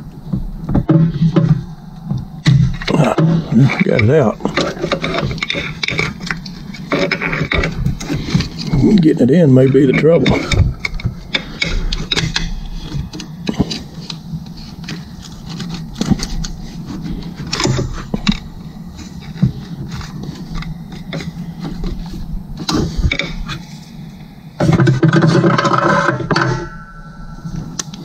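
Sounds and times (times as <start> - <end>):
loud steady sound with held tones: 0.0 - 28.0.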